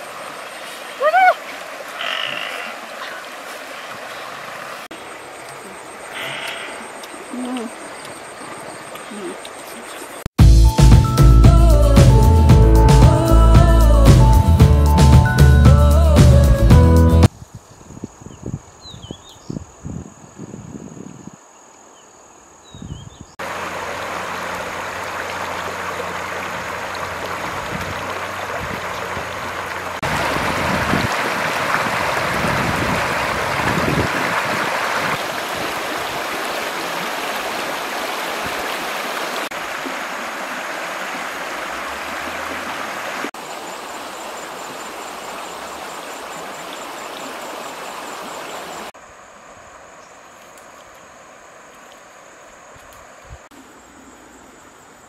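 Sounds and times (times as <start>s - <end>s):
river water flowing: 0.0s - 16.2s, 23.4s - 55.0s.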